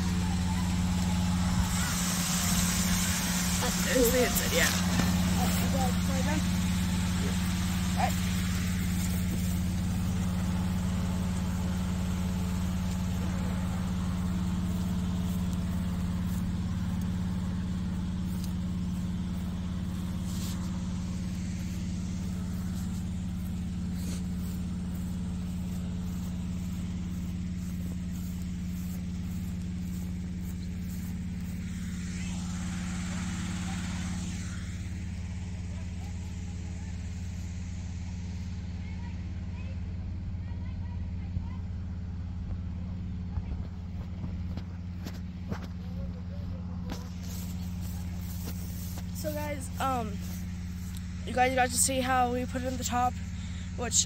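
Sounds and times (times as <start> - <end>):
inflator fan running: 0.0 - 54.0.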